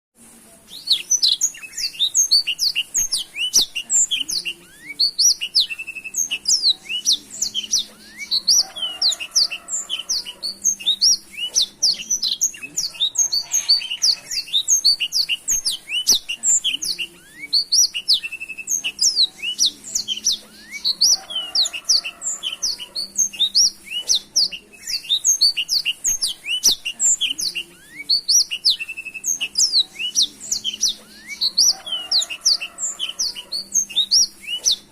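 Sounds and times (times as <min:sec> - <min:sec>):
canary singing: 0:00.7 - 0:34.9.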